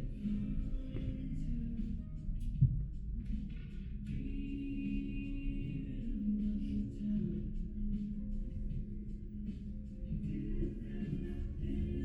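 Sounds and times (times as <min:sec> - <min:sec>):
low rumble of room noise: 0:00.0 - 0:12.0
soft background music: 0:00.0 - 0:12.0
steady held low tone: 0:00.0 - 0:12.0.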